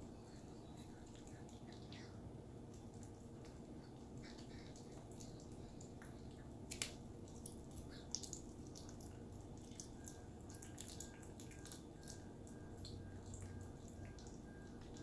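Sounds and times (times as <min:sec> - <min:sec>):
wet clicking mouth sounds: 0:01.0 - 0:15.0.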